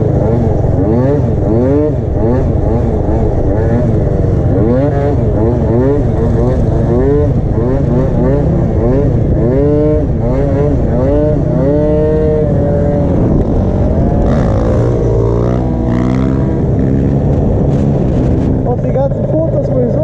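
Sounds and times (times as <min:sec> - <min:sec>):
scooter engine revving: 0:00.0 - 0:20.0.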